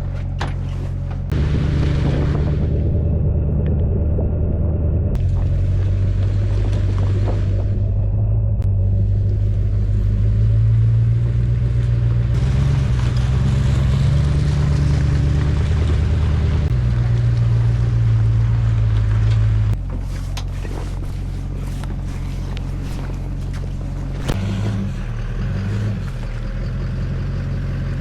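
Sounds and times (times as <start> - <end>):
engine running with low hum: 0.0 - 28.0.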